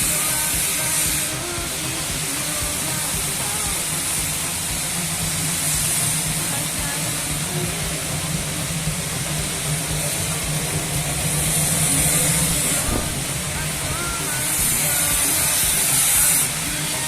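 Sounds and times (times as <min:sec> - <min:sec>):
constant hiss: 0:00.0 - 0:17.0
low engine hum: 0:00.0 - 0:17.0.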